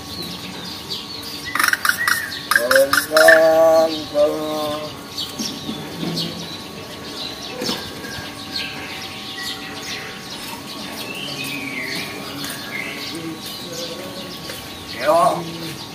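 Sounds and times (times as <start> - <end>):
birds chirping and whistling: 0.0 - 15.9.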